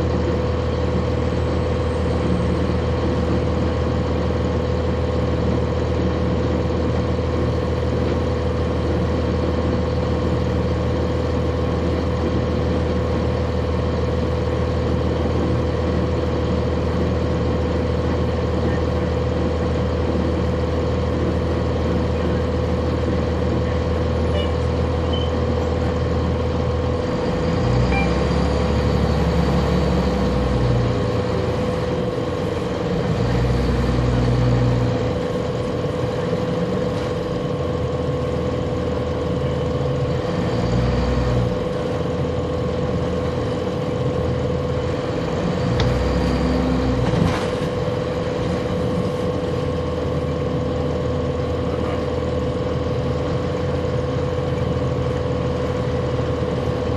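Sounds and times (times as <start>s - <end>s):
bus diesel engine pulling: 0.0s - 56.9s.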